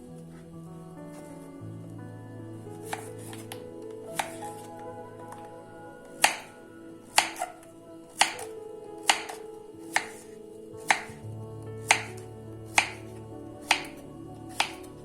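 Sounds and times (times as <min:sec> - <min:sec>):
soft music with held notes: 0:00.0 - 0:15.0.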